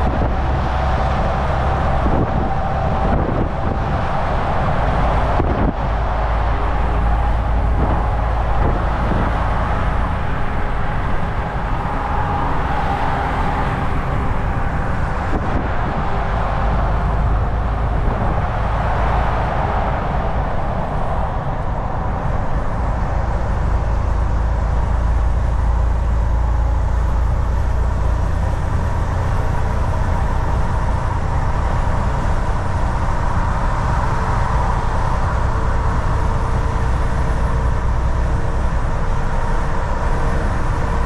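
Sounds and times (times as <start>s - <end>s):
truck engine drone: 0.0s - 41.0s
tyre and road noise: 0.0s - 41.0s.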